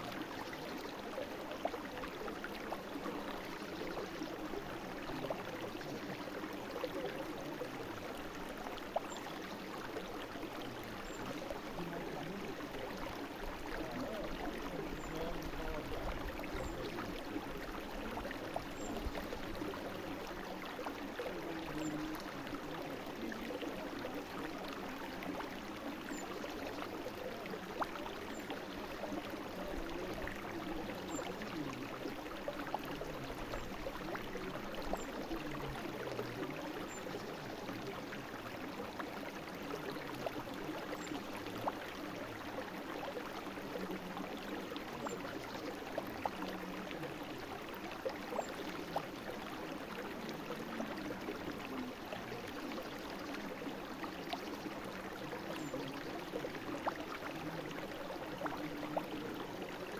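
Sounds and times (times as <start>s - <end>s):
brook babbling: 0.0s - 59.9s.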